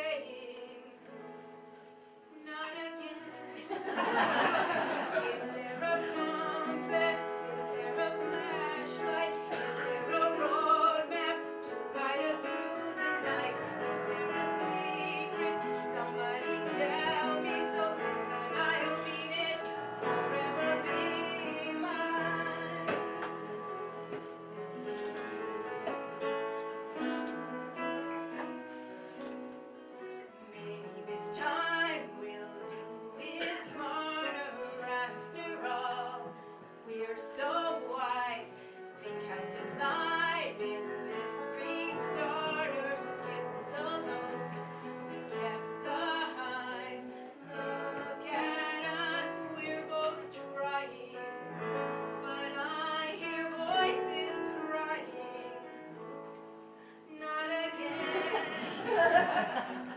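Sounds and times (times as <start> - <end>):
instrumental accompaniment: 0.0 - 59.9.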